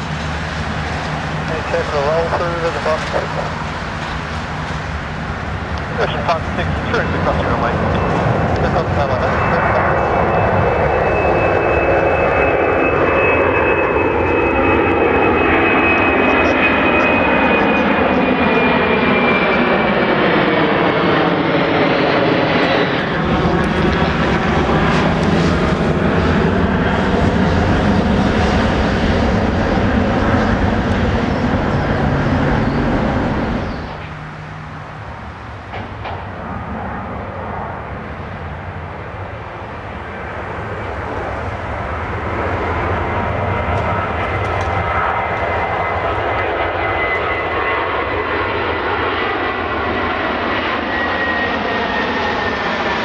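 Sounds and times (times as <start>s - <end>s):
jet aircraft passing overhead: 0.0s - 53.0s
jet taking off rumble: 0.0s - 53.0s.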